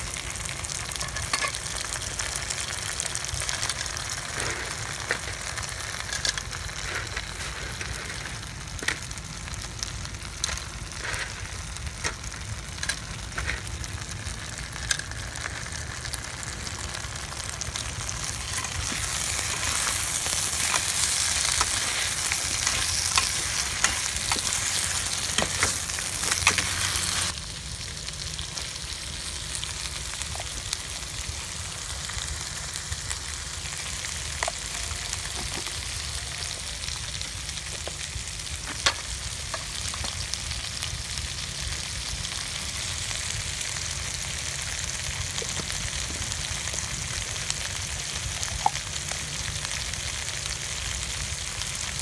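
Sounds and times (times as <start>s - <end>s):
food sizzling in a pot: 0.0s - 52.0s.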